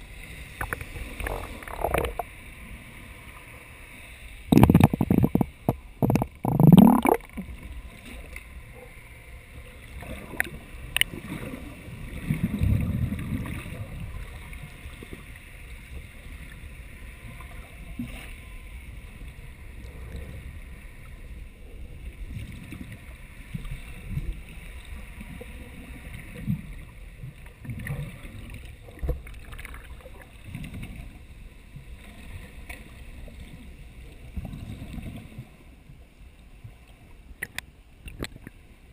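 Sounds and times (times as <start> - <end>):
muffled underwater water wash: 0.0 - 38.9.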